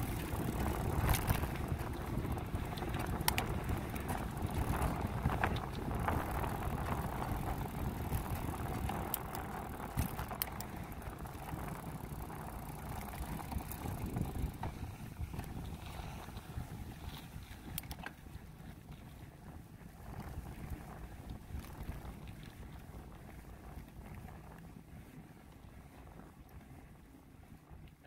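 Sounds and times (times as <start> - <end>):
wind on microphone: 0.0 - 27.9
bicycle clicks and rattles: 0.0 - 28.0
bicycle tyre road noise: 0.0 - 28.0.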